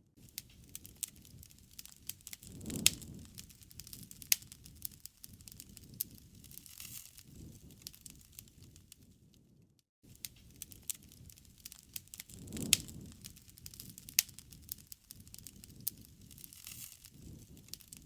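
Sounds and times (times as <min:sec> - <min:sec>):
campfire crackling and popping: 0:00.2 - 0:09.5, 0:10.1 - 0:18.0
low rumble of flames: 0:00.2 - 0:18.0.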